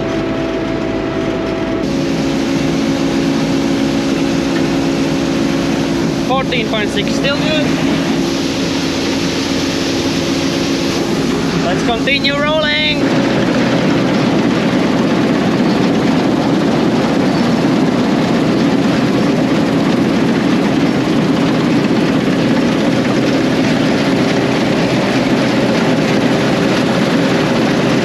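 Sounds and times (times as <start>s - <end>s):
combine harvester drone: 0.0s - 28.0s.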